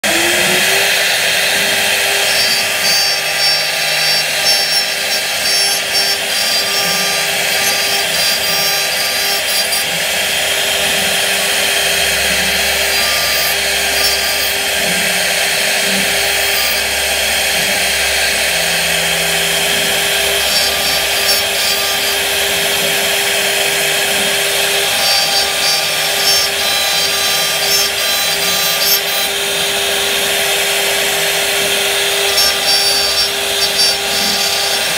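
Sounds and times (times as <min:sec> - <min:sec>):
cutter rasping through wood: 0:00.0 - 0:34.9
router spindle whine: 0:00.0 - 0:34.9.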